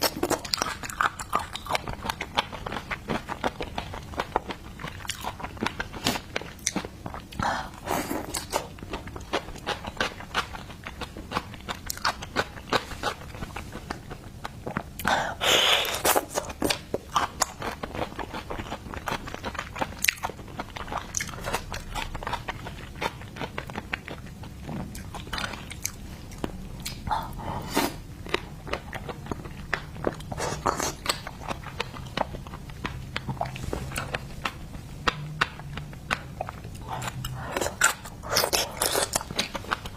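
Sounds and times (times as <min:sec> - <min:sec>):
crunchy chewing clicks: 0:00.0 - 0:15.2, 0:15.9 - 0:27.4, 0:28.1 - 0:39.9
wet biting and chewing: 0:00.0 - 0:39.9.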